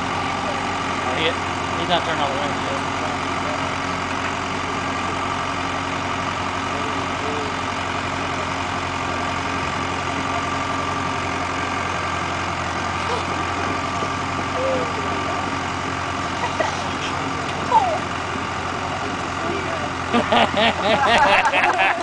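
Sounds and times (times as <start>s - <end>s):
vehicle engines droning: 0.0s - 22.0s.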